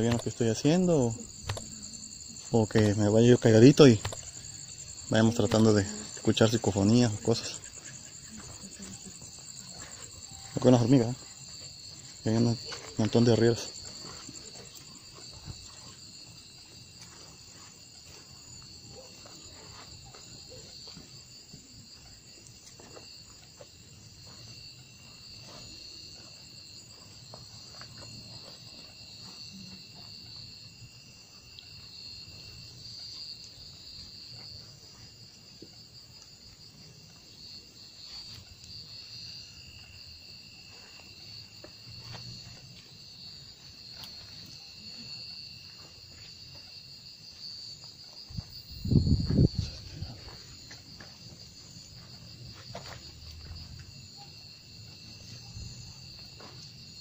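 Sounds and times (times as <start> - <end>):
crickets chirring: 0.0 - 57.0
faint footsteps: 0.0 - 57.0.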